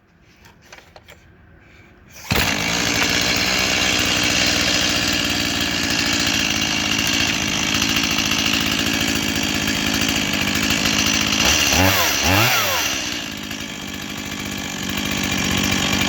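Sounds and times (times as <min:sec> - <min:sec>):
chainsaw starting and running: 0:02.1 - 0:16.0.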